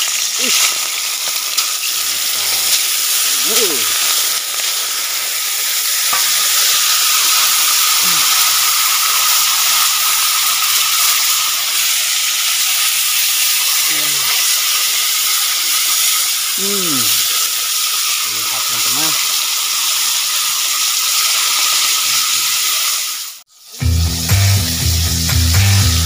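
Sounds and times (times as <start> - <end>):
grubs sizzling in hot oil: 0.0 - 26.0.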